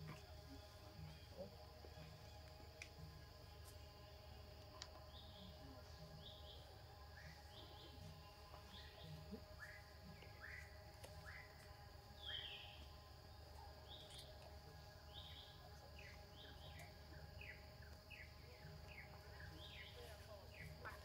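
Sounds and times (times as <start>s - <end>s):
birds chirping: 0.0s - 21.0s
low steady hum: 0.0s - 21.0s.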